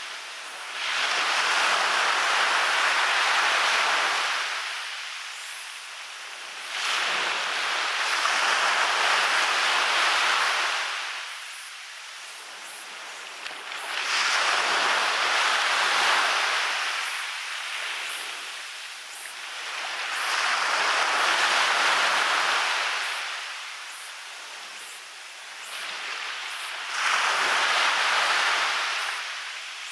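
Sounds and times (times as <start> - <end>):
waves breaking on beach: 0.0 - 29.9.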